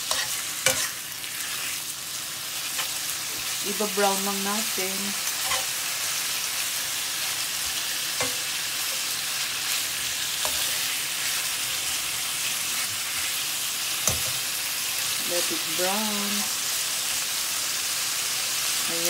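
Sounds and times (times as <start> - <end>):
bacon sizzling in a frying pan: 0.0 - 19.0.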